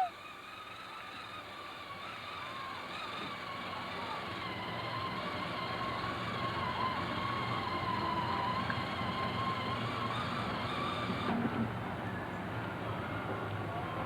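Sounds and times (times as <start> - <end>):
tractor motor whining: 0.0 - 14.0.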